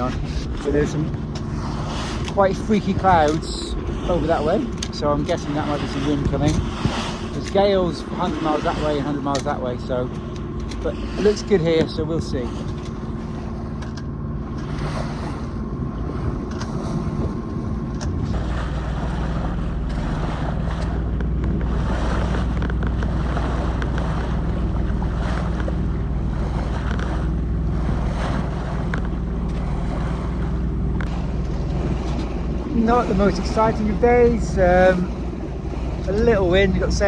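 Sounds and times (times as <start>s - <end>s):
boat engine running: 0.0s - 37.0s
water rushing past hull: 0.0s - 37.0s
wind on microphone: 0.0s - 37.0s.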